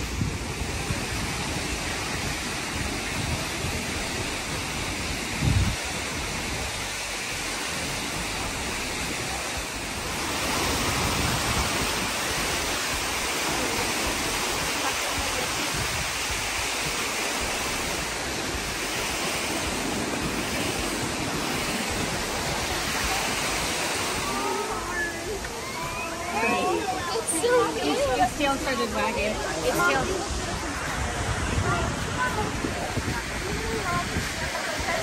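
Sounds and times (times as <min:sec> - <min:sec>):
waterfall rushing over rock: 0:00.0 - 0:35.0.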